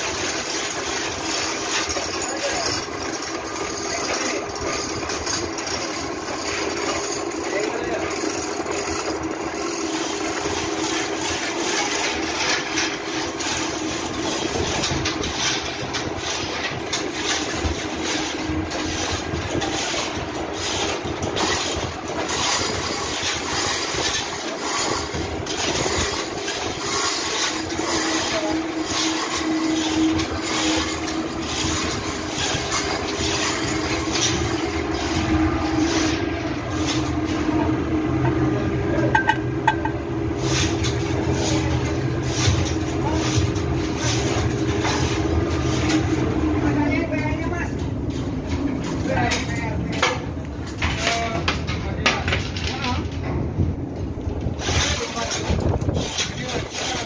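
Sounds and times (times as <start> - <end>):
engine room machinery drone: 0.0 - 57.0.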